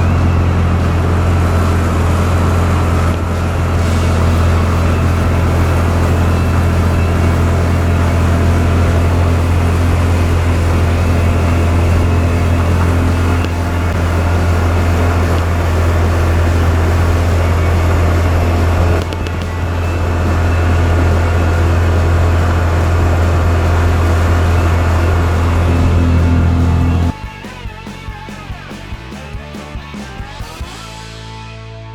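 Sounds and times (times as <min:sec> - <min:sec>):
vehicle engine droning: 0:00.0 - 0:31.6.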